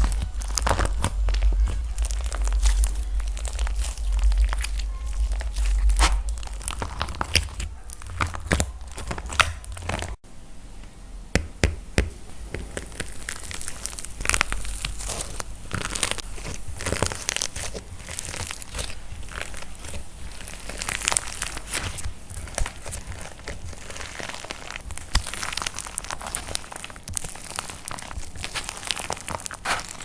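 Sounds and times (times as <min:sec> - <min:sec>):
dried clay cracking and crumbling: 0:00.0 - 0:10.3, 0:11.4 - 0:30.0.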